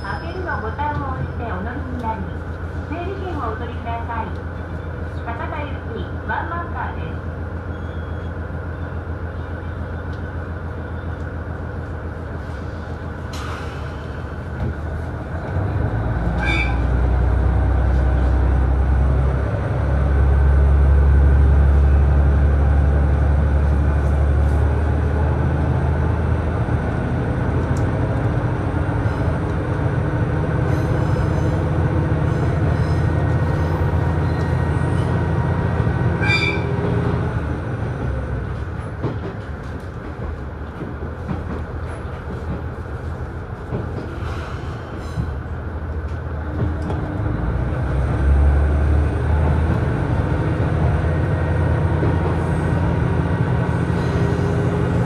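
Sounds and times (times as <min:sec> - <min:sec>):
diesel railcar engine droning: 0:00.0 - 0:55.0.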